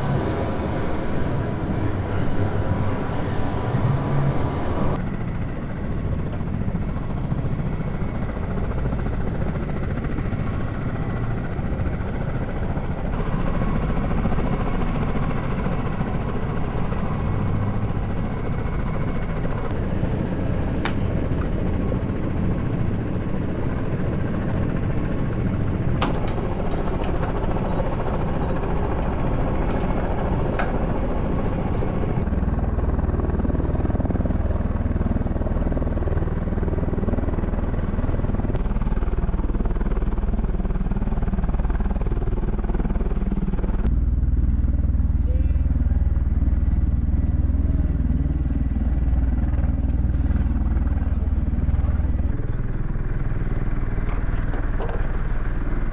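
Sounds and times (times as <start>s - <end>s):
helicopter rotor and turbine: 0.0s - 55.9s.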